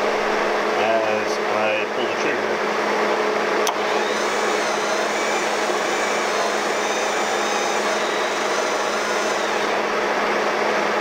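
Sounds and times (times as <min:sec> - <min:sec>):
welder machine whir: 0:02.0 - 0:11.0.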